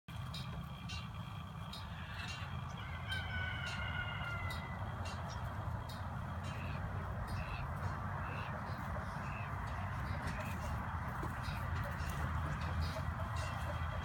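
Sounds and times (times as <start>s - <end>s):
low steady rumble: 0.1s - 14.0s
bird honking call: 0.2s - 14.0s.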